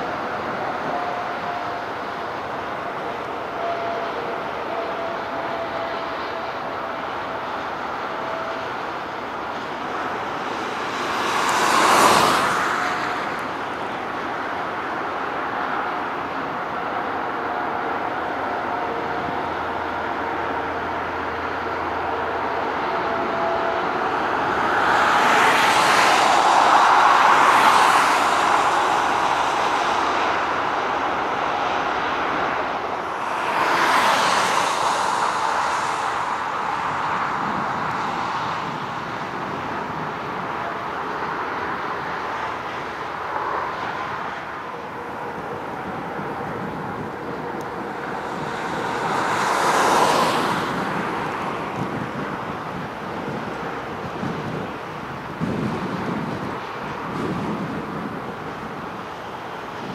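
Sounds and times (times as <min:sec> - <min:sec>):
jet airliner engines rumbling: 0:00.0 - 0:59.9.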